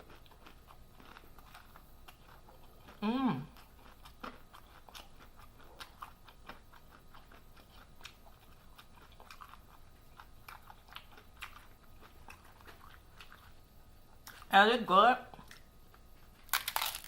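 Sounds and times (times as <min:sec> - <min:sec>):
person chewing food: 0:00.0 - 0:14.5, 0:15.3 - 0:17.0.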